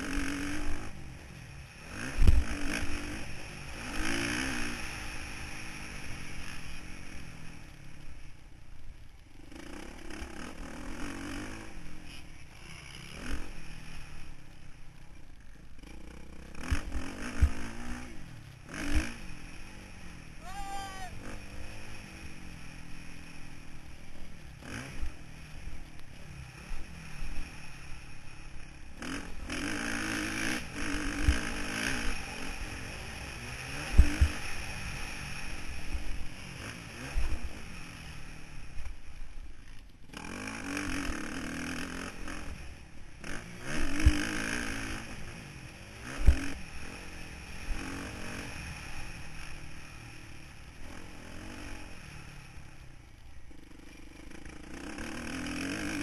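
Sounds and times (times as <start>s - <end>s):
motocross bike engine revving: 0.0s - 8.4s, 9.2s - 56.0s.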